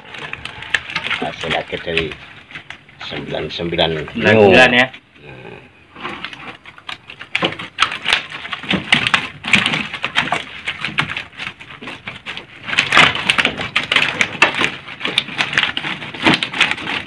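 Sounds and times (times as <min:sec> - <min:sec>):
fish slapping: 0:00.0 - 0:04.2, 0:06.0 - 0:17.0.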